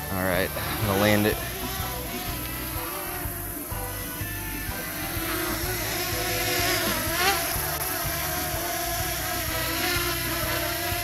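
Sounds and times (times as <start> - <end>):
drone propellers buzzing: 0.0 - 11.0.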